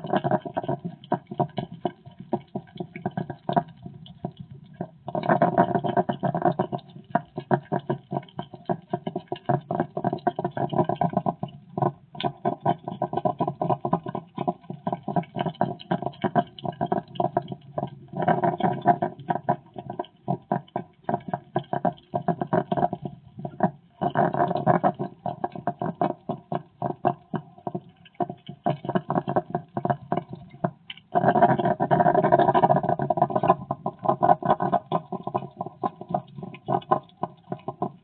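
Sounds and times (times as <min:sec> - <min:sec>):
hedgehog making pulsing sounds: 0:00.0 - 0:38.0.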